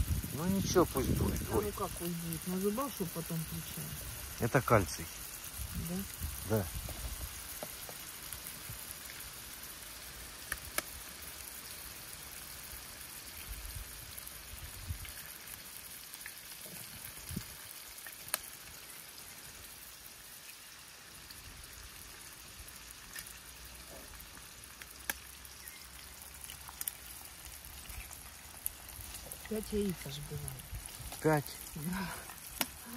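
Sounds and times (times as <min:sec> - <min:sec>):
eggs sizzling in a pan: 0:00.0 - 0:32.9
frying pops: 0:00.0 - 0:32.9.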